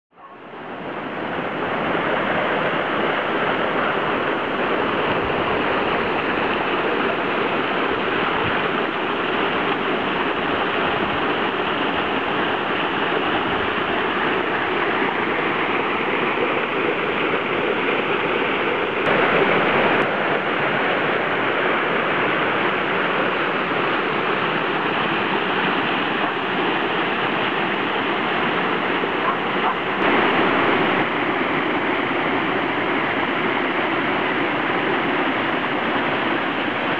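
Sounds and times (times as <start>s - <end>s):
stream rushing over rocks: 0.4s - 36.9s.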